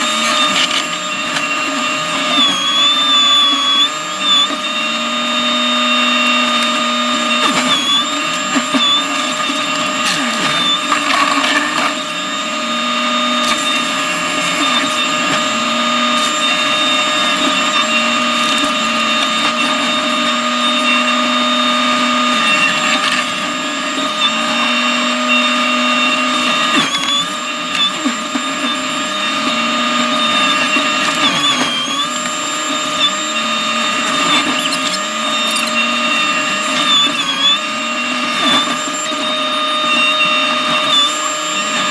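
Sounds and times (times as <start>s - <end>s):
mulching head high whine: 0.0s - 41.9s
skid steer engine: 0.0s - 41.9s.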